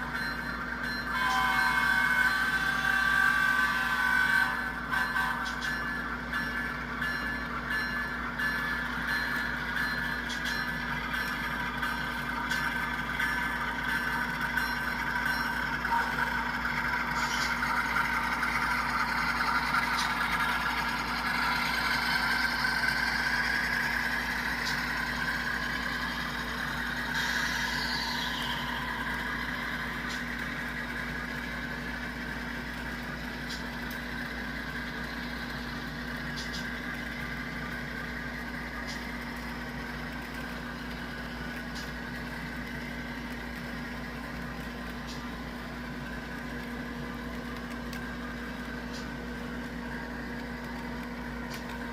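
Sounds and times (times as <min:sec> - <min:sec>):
model train motor hum: 0:00.0 - 0:51.9
wheels on rails: 0:00.0 - 0:51.9.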